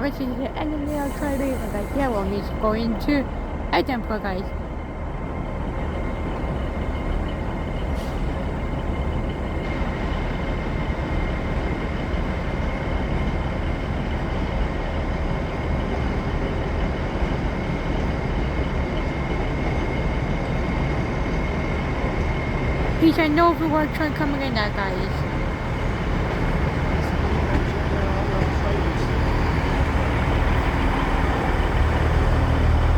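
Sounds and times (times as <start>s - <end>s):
train low rumble: 0.0s - 32.9s.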